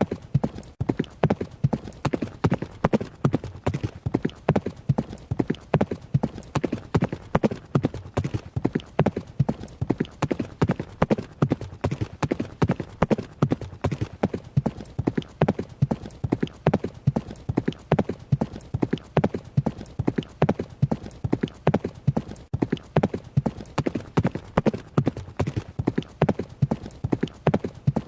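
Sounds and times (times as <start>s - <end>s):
horse hoofbeats: 0.0s - 28.0s.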